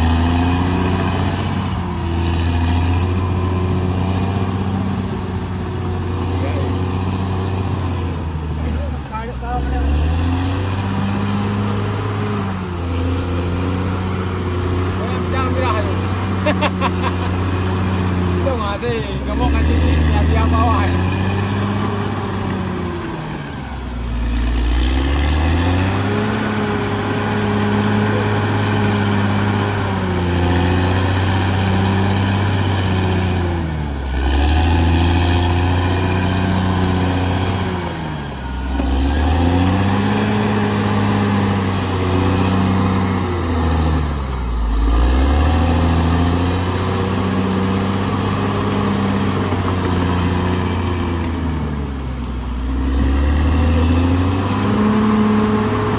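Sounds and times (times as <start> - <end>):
bulldozer diesel engine revving: 0.0 - 55.9.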